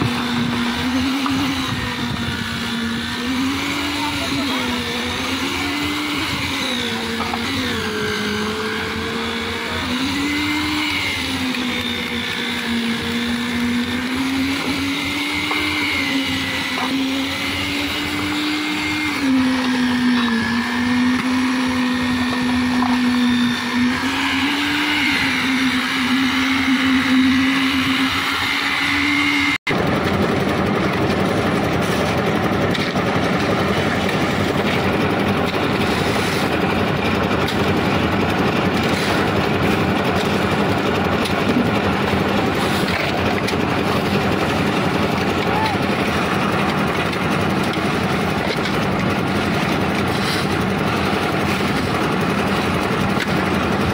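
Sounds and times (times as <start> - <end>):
concrete mixer engine drone: 0.0 - 53.9
rough noisy machine sound: 0.0 - 53.9.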